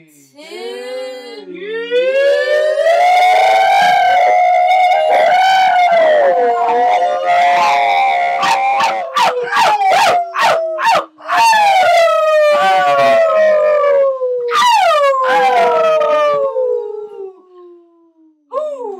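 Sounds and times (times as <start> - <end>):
people howling: 0.6 - 17.4.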